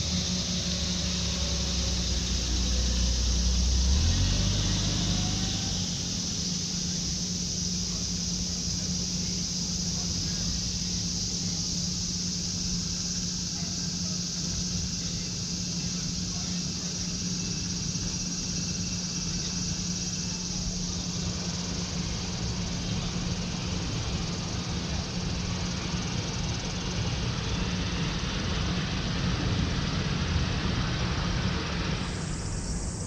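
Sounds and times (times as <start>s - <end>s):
electric locomotive whine: 0.0s - 33.0s
high-pitched insect drone: 0.0s - 33.0s
steady low hum: 0.0s - 33.0s.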